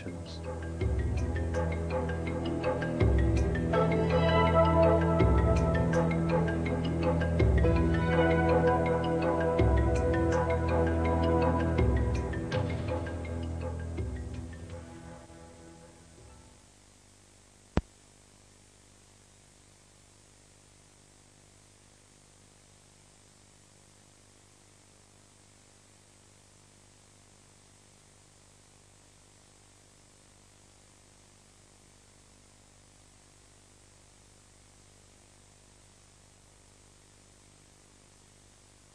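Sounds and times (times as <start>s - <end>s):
tape hiss: 0.0s - 38.9s.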